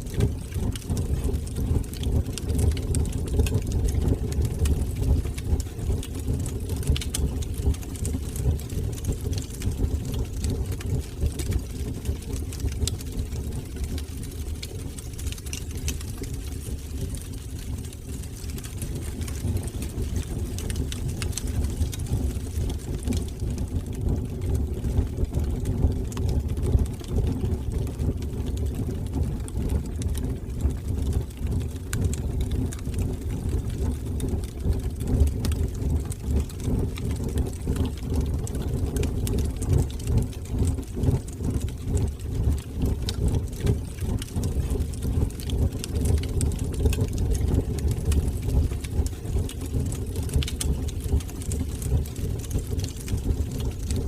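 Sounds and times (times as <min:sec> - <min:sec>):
fire crackles and pops: 0:00.0 - 0:54.0
low rumble of flames: 0:00.0 - 0:54.0.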